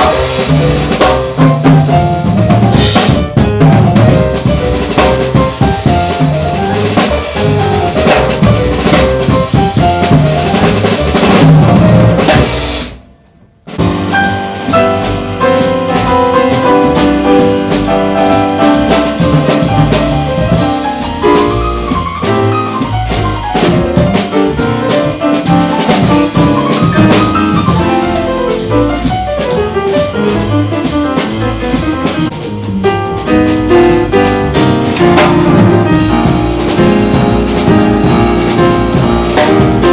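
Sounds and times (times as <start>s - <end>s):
drum kit: 0.0s - 39.9s
jazz piano trio: 0.0s - 39.9s.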